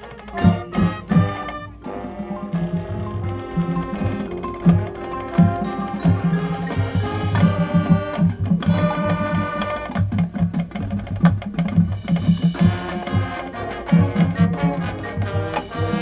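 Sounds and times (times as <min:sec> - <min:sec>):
drumline strikes: 0:00.0 - 0:16.0
brass and woodwind chords: 0:00.3 - 0:10.1, 0:12.5 - 0:16.0.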